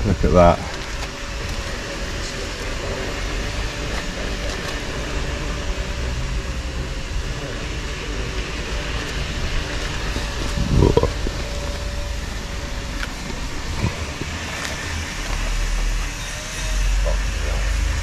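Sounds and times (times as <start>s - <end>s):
steady mechanical hum: 0.0s - 18.0s
low rumble: 1.2s - 18.0s.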